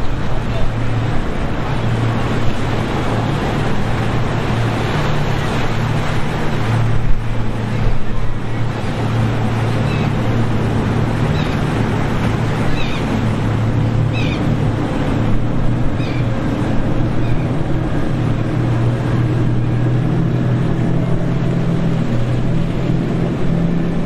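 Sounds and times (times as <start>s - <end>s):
boat engines droning: 0.0s - 24.0s
rushing water and waves: 0.0s - 24.0s.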